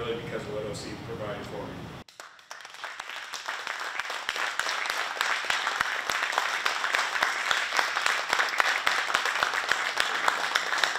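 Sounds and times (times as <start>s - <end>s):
audience applauding: 2.1s - 10.9s.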